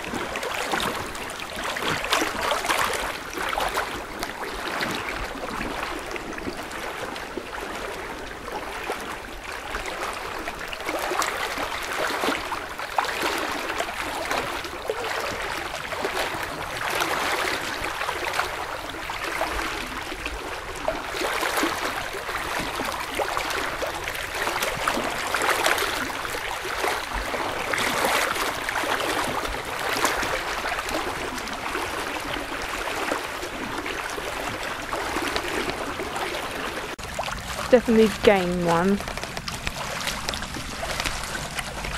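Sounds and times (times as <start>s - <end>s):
fast flowing water rushing: 0.0s - 41.9s.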